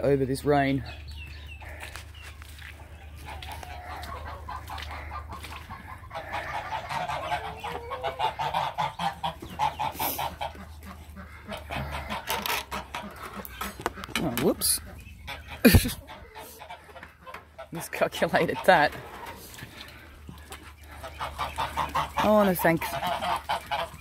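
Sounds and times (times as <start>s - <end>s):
domestic geese honking: 0.0s - 24.0s.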